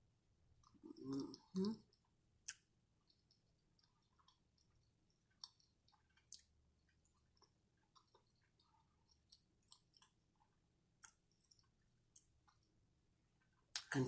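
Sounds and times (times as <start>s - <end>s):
wet chewing smacks: 0.6s - 12.8s.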